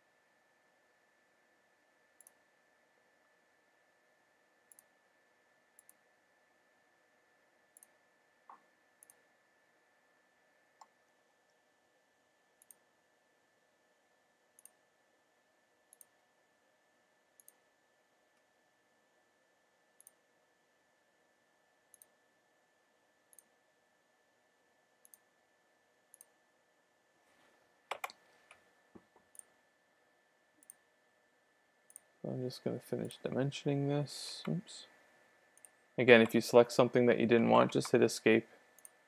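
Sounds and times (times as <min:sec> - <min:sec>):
faint steady whine: 0:00.0 - 0:39.0.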